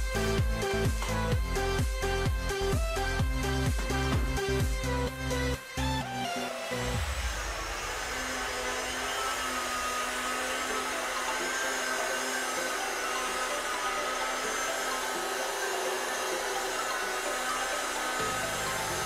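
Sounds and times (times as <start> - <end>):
electric polisher whining on glass: 0.0 - 19.0.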